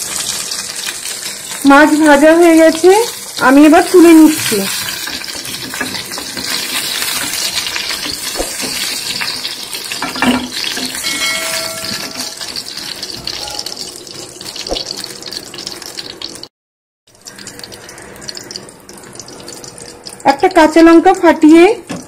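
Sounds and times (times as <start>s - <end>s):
oil sizzling in a frying pan: 0.0s - 16.5s, 17.1s - 22.0s.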